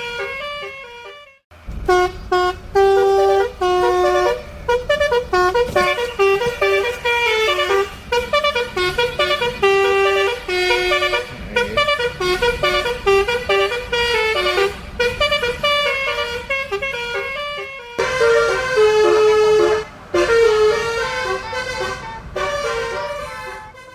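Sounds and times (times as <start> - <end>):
multi-tone bus horn melody: 0.0 - 23.9.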